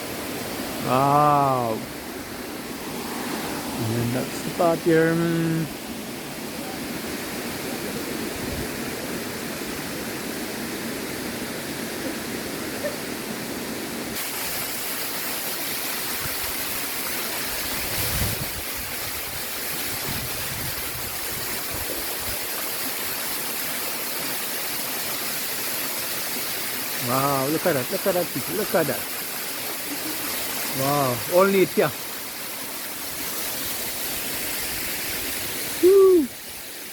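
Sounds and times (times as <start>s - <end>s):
waterfall roaring: 0.0s - 36.9s.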